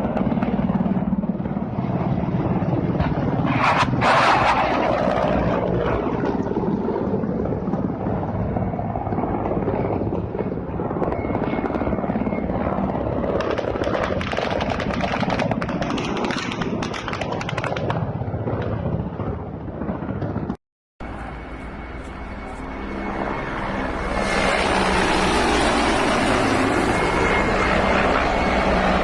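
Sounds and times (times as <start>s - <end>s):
helicopter rotors beating: 0.0s - 29.0s.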